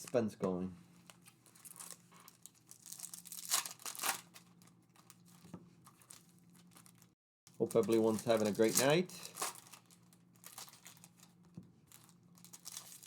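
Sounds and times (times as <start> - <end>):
plastic wrapping crinkling: 1.0 - 13.0
plastic ripping: 1.1 - 13.0.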